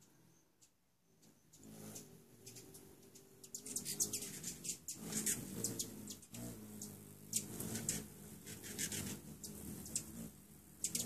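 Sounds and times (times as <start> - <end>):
hummingbird wings humming: 0.0 - 11.0
hummingbirds chirping: 0.0 - 11.0.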